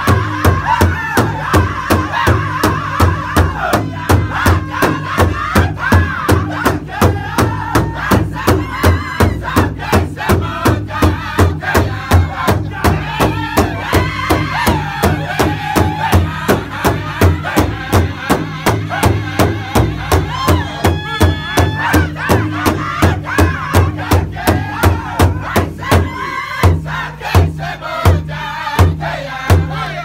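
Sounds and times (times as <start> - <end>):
group singing in high voices: 0.0 - 30.0
large drum steady beat: 0.0 - 30.0.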